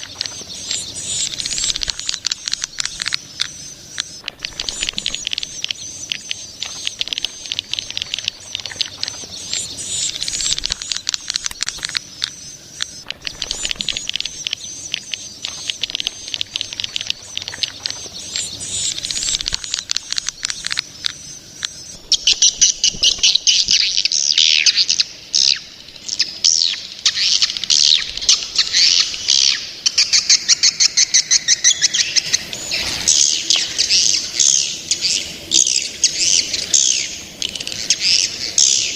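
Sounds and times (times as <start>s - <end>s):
thin steady high tone: 0.0s - 32.8s
young swiftlets chirping: 0.0s - 38.9s.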